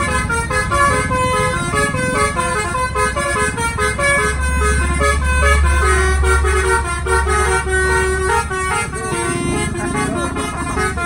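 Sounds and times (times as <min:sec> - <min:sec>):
bus engine rumble: 0:00.0 - 0:11.0
bus horn playing a tune: 0:00.0 - 0:11.0.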